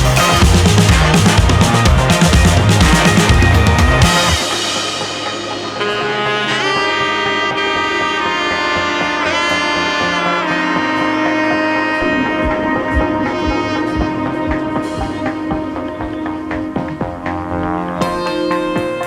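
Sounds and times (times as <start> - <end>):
light beat: 0.0 - 19.0
saxophone-like horn playing: 0.0 - 19.0.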